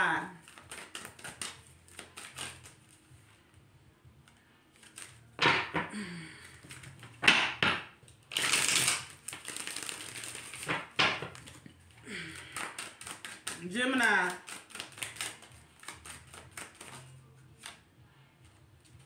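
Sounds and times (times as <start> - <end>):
cards being shuffled: 0.4 - 3.5, 4.2 - 17.8.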